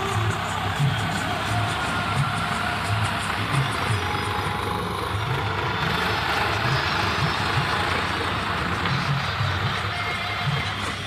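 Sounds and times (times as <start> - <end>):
tractor diesel engine chugging: 0.0 - 11.0.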